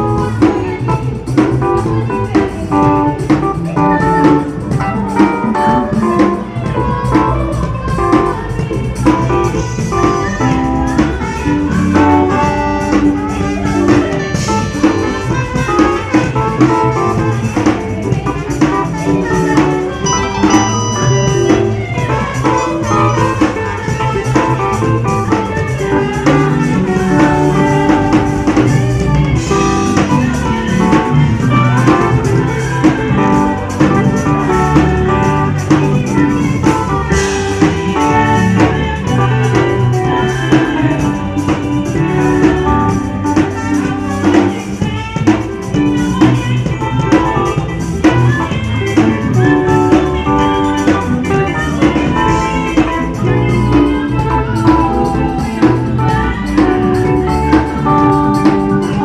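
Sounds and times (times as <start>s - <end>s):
drum kit beat: 0.0s - 59.0s
gospel choir and band: 0.0s - 59.0s
guitar: 0.0s - 59.0s.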